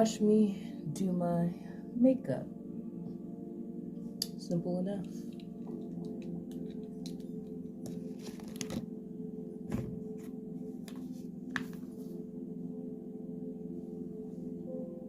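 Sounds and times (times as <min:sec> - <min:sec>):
low droning background music: 0:00.0 - 0:15.0.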